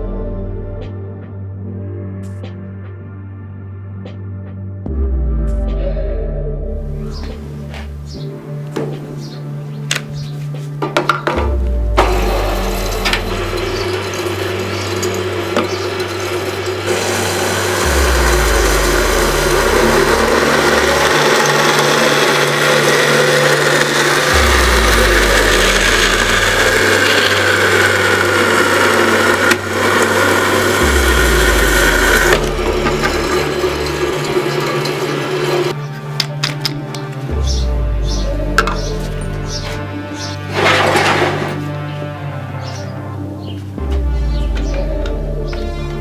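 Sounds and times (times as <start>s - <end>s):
bandsaw cutting metal: 6.9s - 46.0s.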